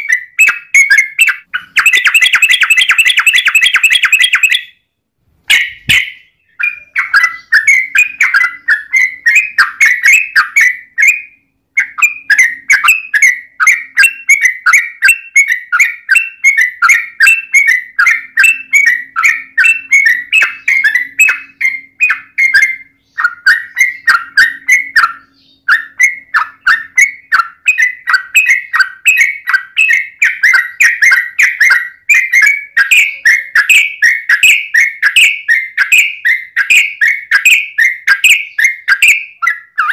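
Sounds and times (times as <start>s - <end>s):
bird calling in rapid chirps: 0.0s - 39.9s.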